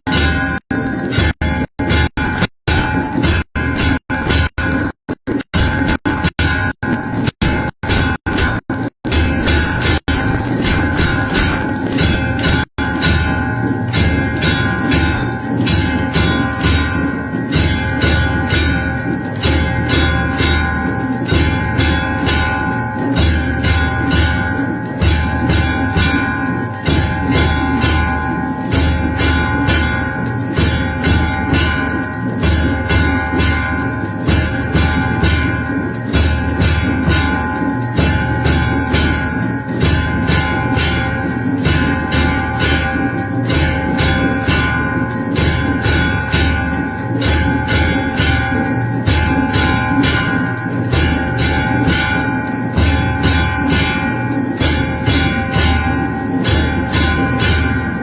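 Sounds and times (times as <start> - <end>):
bells ringing: 0.0 - 5.0, 5.6 - 58.0.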